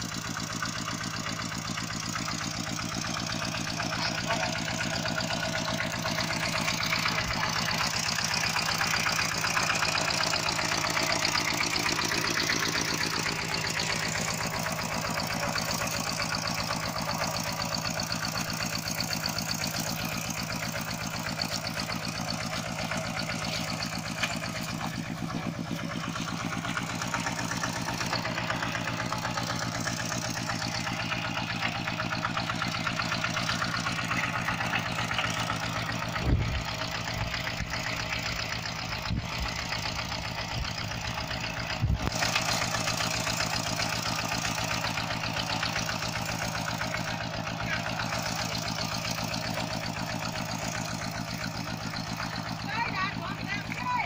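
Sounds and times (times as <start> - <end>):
diesel tractor engine chugging: 0.0 - 54.0.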